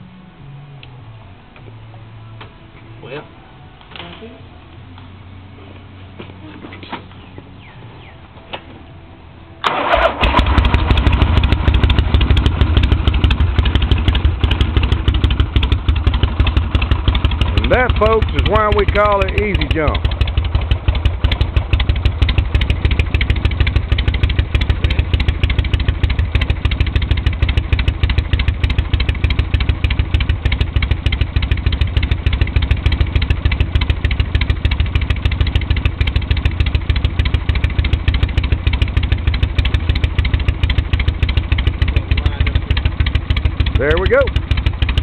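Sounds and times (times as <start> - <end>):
motorcycle engine running: 3.9 - 45.0.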